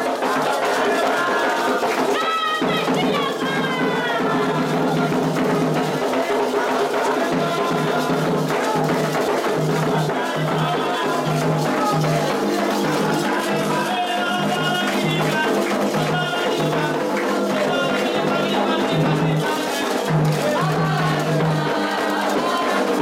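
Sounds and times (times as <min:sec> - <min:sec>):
hand drumming: 0:00.0 - 0:23.0
voices chanting: 0:00.0 - 0:23.0.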